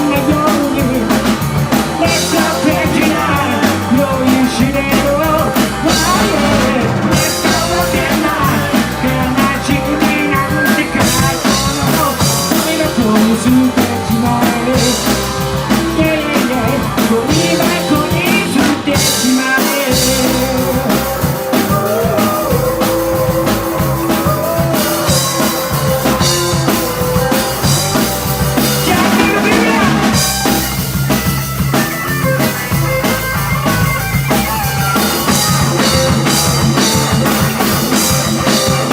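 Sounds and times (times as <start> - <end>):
bending melodic lines: 0.0 - 38.9
drum kit beat: 0.0 - 38.9
rock band playing live: 0.0 - 38.9.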